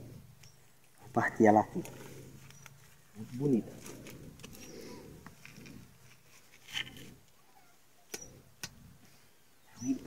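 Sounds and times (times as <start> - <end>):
rustling through dry brush: 0.0 - 9.4.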